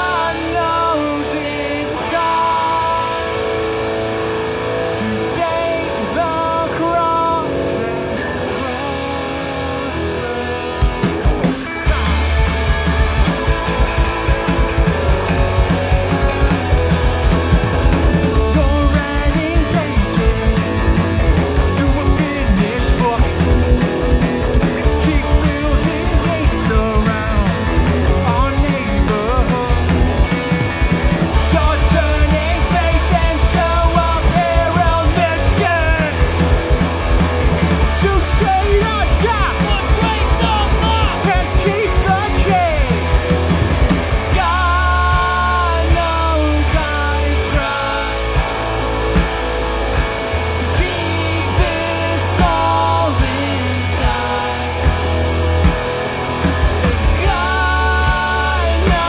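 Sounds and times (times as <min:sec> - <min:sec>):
man singing: 0:00.0 - 0:03.5, 0:04.8 - 0:30.6, 0:31.3 - 0:36.9, 0:37.8 - 0:43.4, 0:44.2 - 0:48.8, 0:50.3 - 0:55.3, 0:56.9 - 0:59.0
bass guitar: 0:00.0 - 0:59.0
distorted electric guitars: 0:00.0 - 0:59.0
drum kit: 0:00.0 - 0:59.0.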